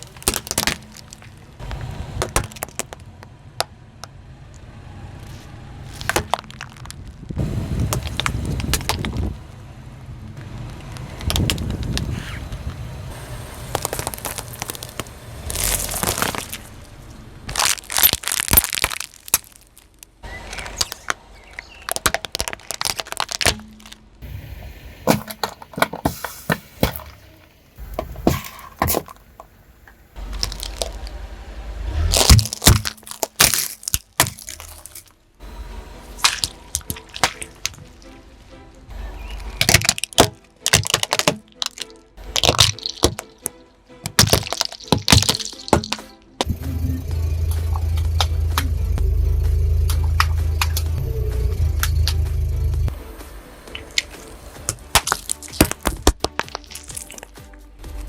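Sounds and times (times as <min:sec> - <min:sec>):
car wheel crushing brittle objects: 0:00.0 - 0:04.6, 0:05.2 - 0:09.4, 0:10.6 - 0:24.3, 0:25.0 - 0:46.6, 0:47.2 - 0:52.9, 0:53.7 - 0:58.0.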